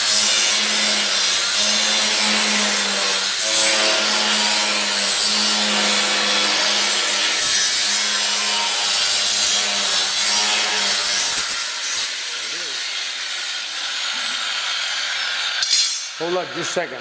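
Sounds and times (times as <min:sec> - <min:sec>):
power tool grinding steel: 0:00.0 - 0:17.0.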